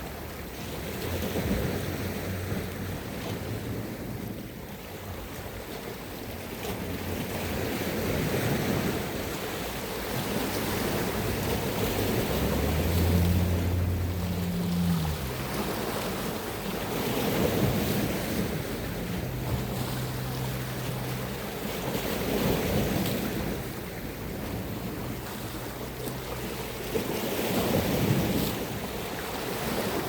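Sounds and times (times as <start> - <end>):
low engine hum: 0.0 - 30.0
sea waves washing on shore: 0.0 - 30.0.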